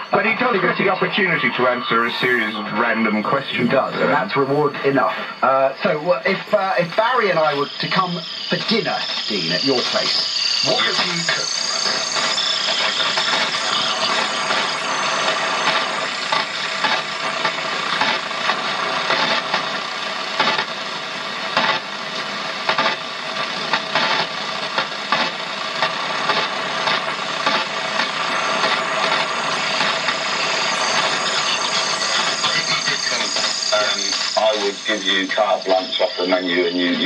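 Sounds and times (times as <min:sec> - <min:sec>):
radio static hissing and crackling: 0:00.0 - 0:37.0
stepper motor interference: 0:00.2 - 0:37.0.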